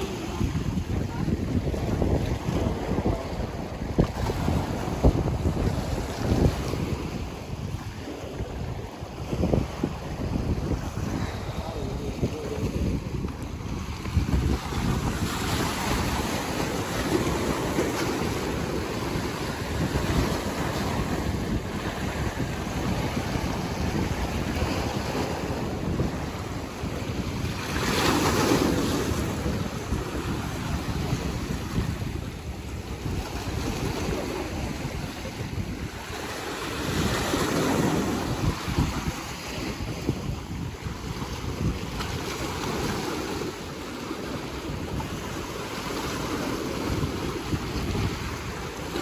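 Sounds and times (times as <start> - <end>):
ocean surf washing on shore: 0.0 - 49.0
waves breaking: 0.0 - 49.0
wind buffeting microphone: 0.0 - 49.0.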